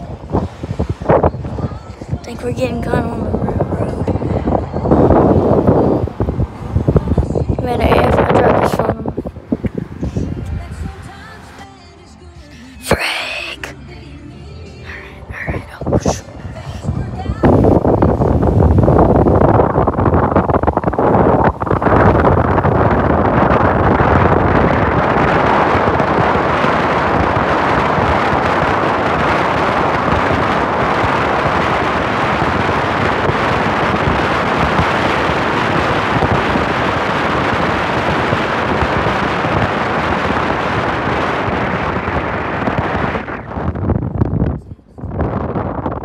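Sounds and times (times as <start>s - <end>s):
car road noise: 0.0s - 46.0s
wind rushing over microphone: 0.0s - 46.0s.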